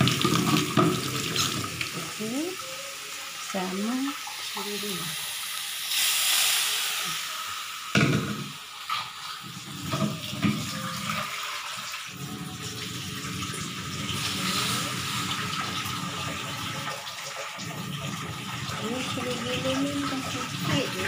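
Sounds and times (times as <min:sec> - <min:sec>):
water pouring into wok: 0:00.0 - 0:21.0.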